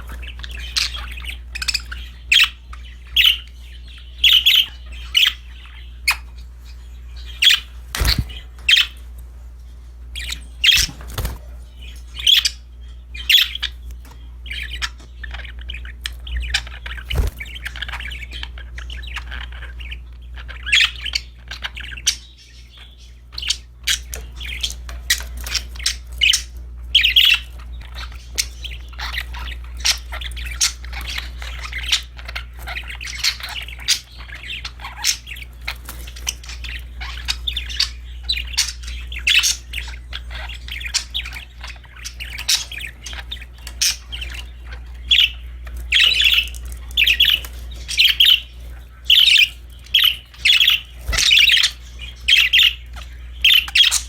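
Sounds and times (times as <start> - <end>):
budgies chirping and squawking: 0.0 - 54.0
soft warbling chatter: 0.0 - 54.0
steady low hum: 0.0 - 54.0.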